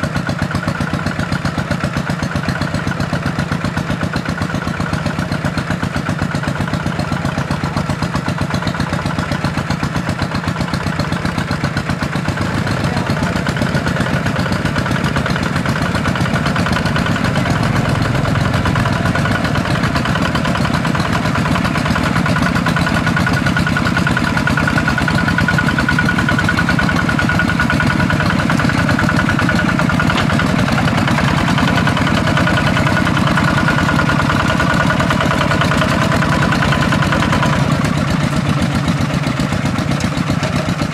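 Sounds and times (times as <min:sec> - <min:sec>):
diesel tractor engine chugging: 0:00.0 - 0:40.9.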